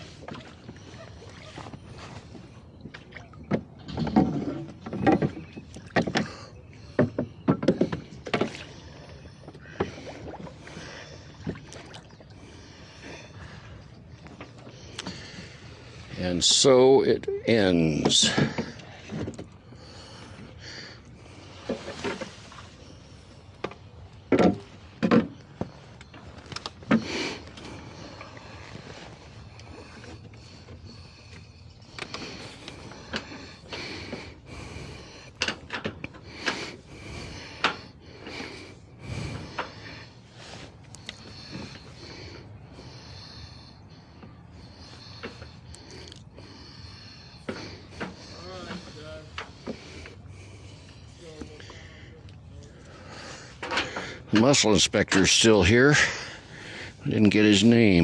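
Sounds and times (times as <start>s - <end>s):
boat and oars knocking: 0.0s - 16.1s, 17.9s - 54.4s
water lapping against boat hull: 0.0s - 54.5s.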